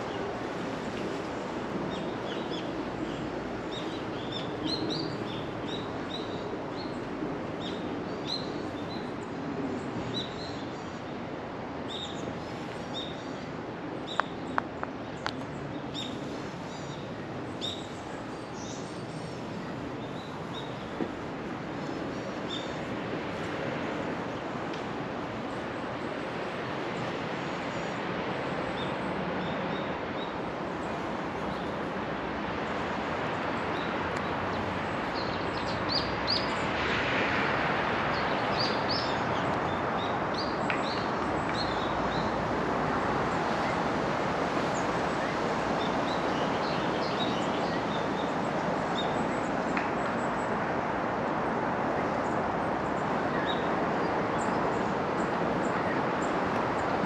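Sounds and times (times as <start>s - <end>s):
outdoor ambience: 0.0s - 57.0s.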